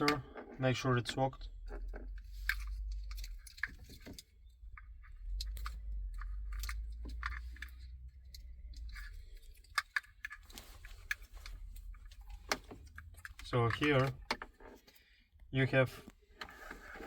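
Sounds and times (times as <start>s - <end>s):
plastic connectors and cables handled: 0.0s - 15.0s.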